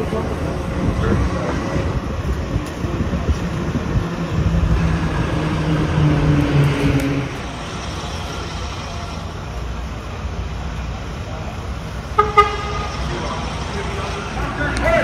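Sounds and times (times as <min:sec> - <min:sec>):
low engine drone: 0:00.0 - 0:15.0
vehicles passing: 0:00.0 - 0:15.0.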